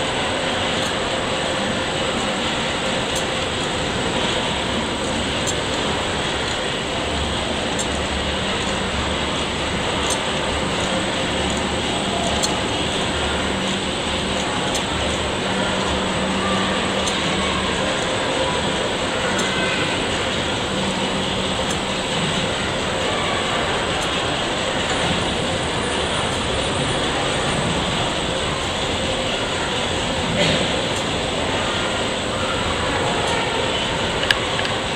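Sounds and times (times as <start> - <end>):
large engine mechanical clatter: 0.0 - 34.9.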